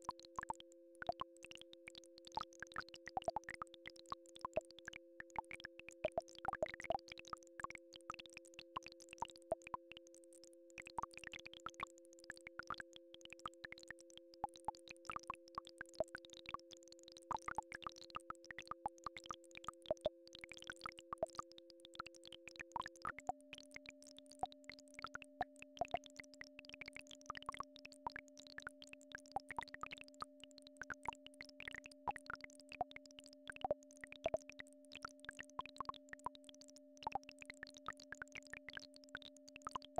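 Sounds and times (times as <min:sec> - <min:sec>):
soft plops and ticks: 0:00.0 - 0:39.9.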